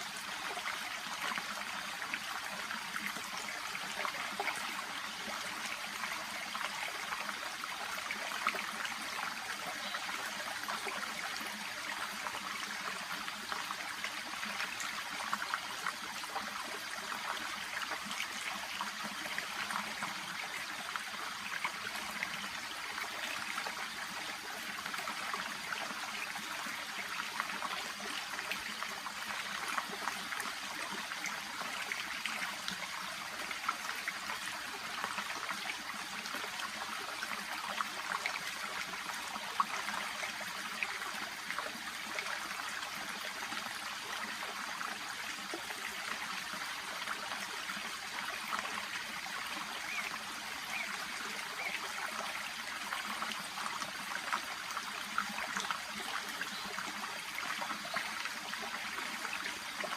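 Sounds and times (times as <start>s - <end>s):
brook babbling: 0.0s - 59.9s.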